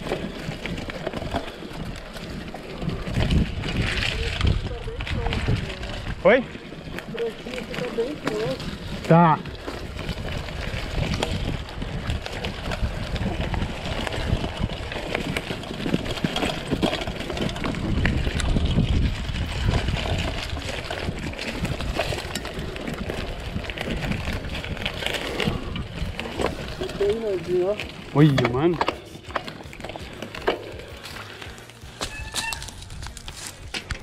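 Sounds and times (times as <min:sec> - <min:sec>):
wind rumble on microphone: 0:00.0 - 0:28.2, 0:29.6 - 0:34.0
bike rattles and knocks: 0:00.0 - 0:34.0.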